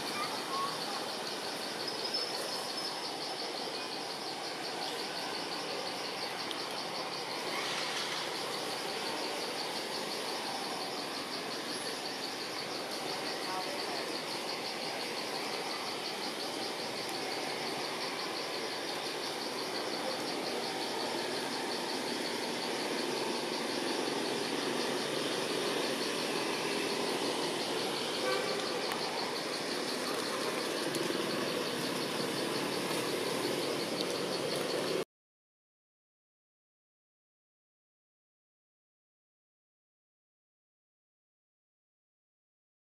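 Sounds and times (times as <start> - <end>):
distant road traffic rumble: 0.0 - 35.0
insects trilling: 0.0 - 35.0.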